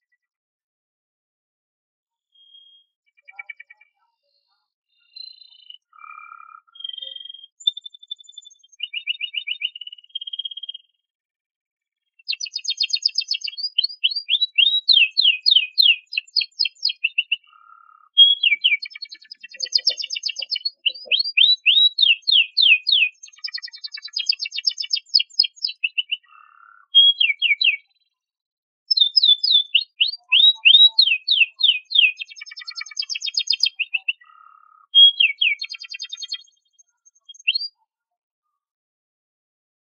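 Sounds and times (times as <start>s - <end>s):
canary singing trills: 2.3s - 10.9s, 12.2s - 28.2s, 28.9s - 37.9s.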